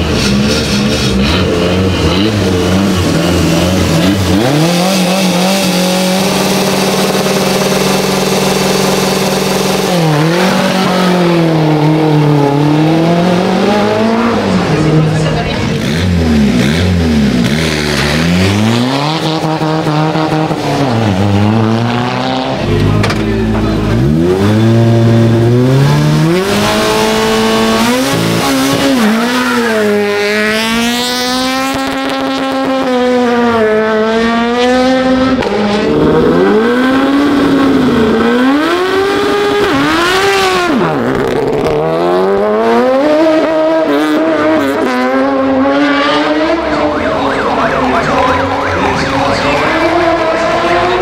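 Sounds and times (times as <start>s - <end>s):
racing car engines revving: 0.0s - 51.0s.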